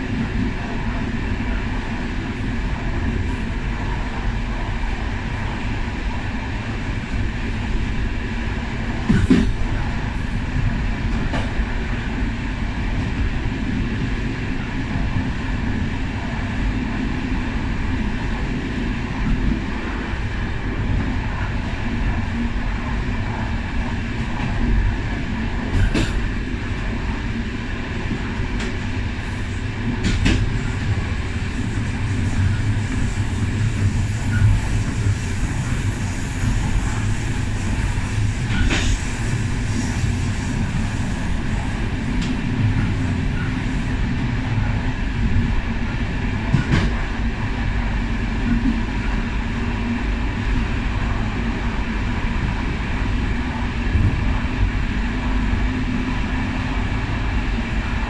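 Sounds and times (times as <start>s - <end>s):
train coach rumbling on track: 0.0s - 58.0s.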